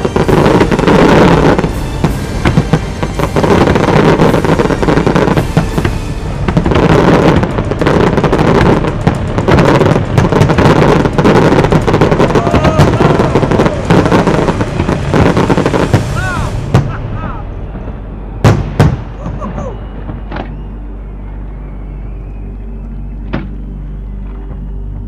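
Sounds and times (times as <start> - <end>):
music playing: 0.0 - 25.0.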